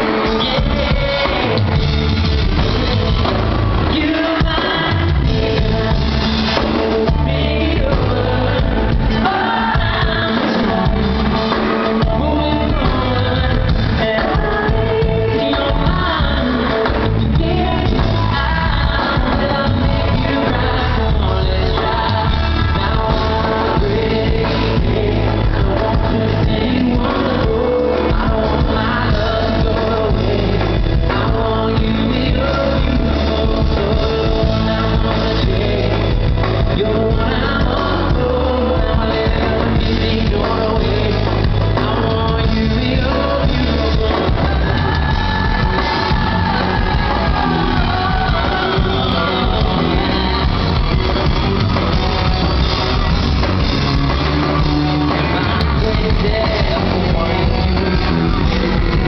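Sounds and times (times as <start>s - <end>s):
man singing into microphone: 0.0s - 2.6s, 3.8s - 53.2s, 53.8s - 59.0s
live pop band playing: 0.0s - 59.0s.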